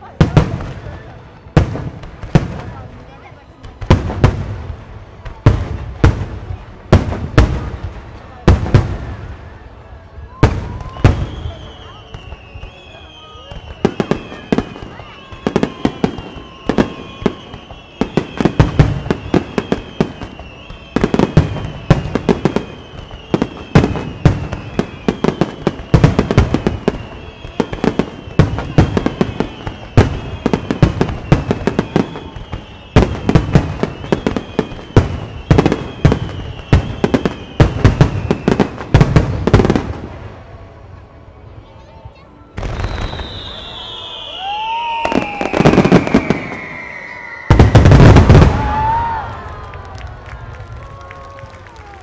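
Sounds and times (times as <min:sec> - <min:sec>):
fireworks bursting: 0:00.0 - 0:41.8, 0:42.5 - 0:52.0.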